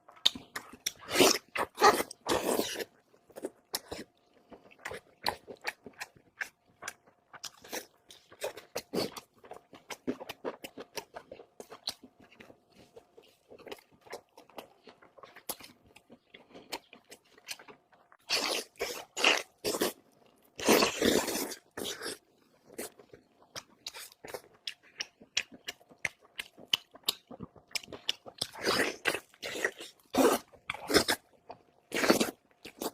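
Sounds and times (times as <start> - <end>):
person chewing food: 0.0 - 32.9.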